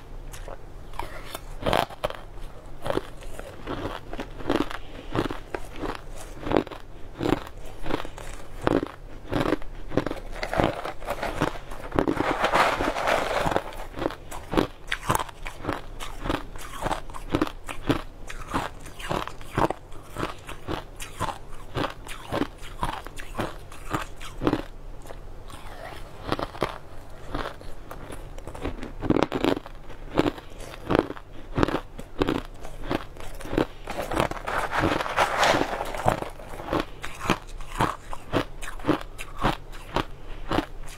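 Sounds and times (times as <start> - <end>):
ice cubes crunched in mouth: 0.3 - 40.9.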